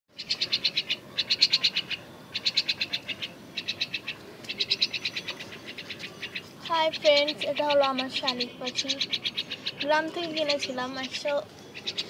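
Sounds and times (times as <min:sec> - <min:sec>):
bird pulsed chatter: 0:00.1 - 0:12.0.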